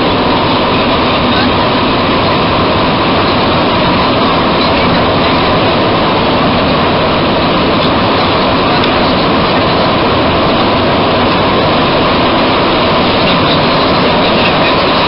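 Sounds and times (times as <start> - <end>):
metro train rushing through tunnel: 0.0 - 15.0.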